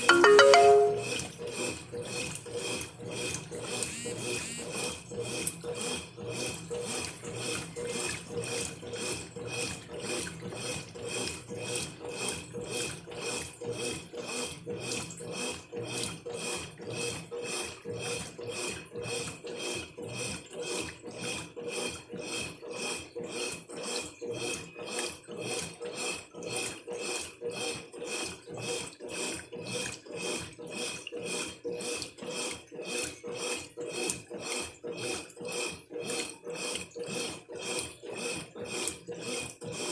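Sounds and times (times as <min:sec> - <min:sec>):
washing machine agitating laundry: 0:01.3 - 0:39.9.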